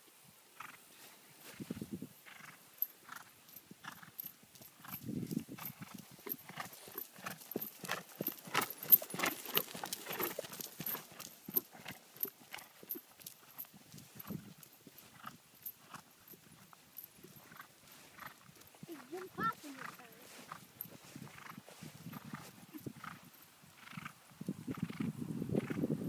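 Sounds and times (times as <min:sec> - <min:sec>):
horse hoofbeats on grass: 0:00.6 - 0:26.0.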